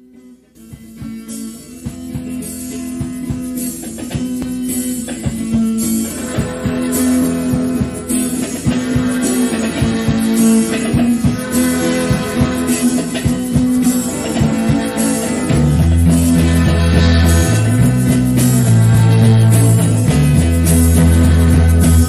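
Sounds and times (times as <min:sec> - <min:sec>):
guitar over drum kit: 0:00.0 - 0:22.0.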